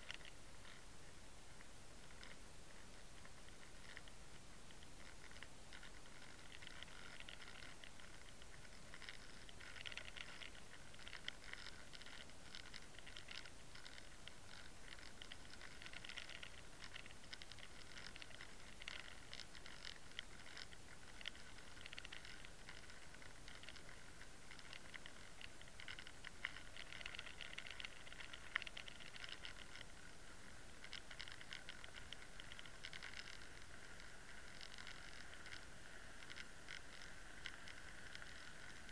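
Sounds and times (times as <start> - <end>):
sharp ticks: 0.0 - 0.9, 3.0 - 38.9
underwater crackling and patter: 0.0 - 38.9.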